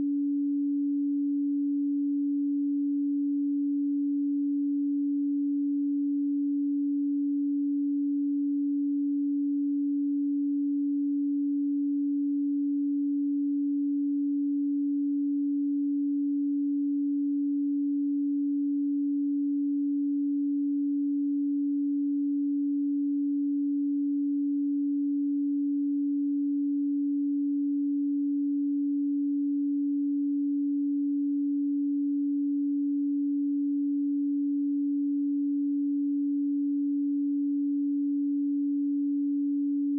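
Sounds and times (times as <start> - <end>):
low sine tone: 0.0 - 39.9.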